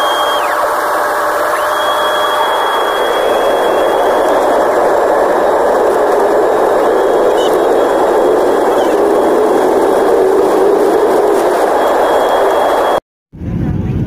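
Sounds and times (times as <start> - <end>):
jet engines roaring in cabin: 0.0 - 13.0.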